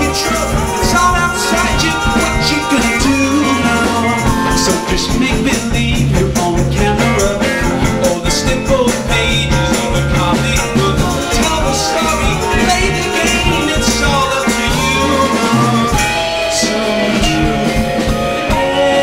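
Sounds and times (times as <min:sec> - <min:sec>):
live band upbeat groove: 0:00.0 - 0:19.0.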